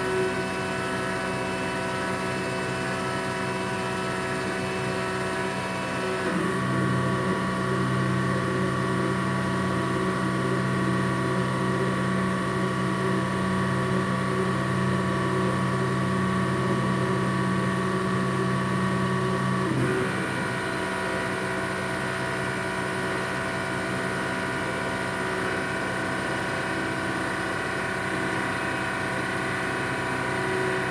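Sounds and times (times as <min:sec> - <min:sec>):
machine hum and whine: 0:00.0 - 0:30.9.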